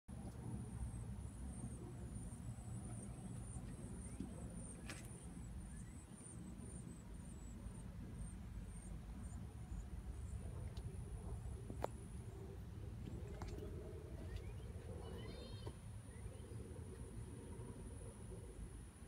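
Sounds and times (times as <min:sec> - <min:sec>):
steady low rumble: 0:00.1 - 0:19.0
thin steady high whine: 0:00.1 - 0:19.0.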